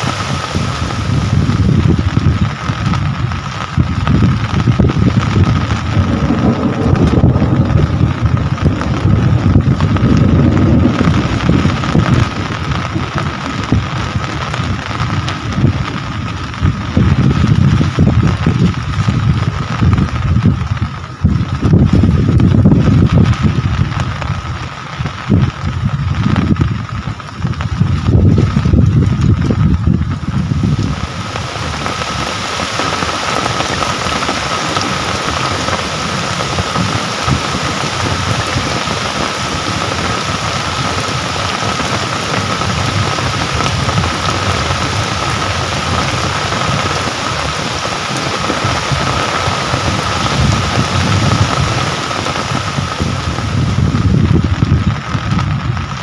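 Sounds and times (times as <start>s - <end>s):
steady rain falling: 0.0s - 56.0s
wind buffeting microphone: 0.0s - 56.0s.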